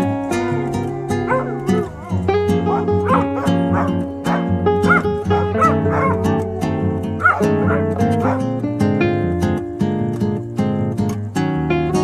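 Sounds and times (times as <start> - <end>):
plucked string music with bass: 0.0 - 12.0.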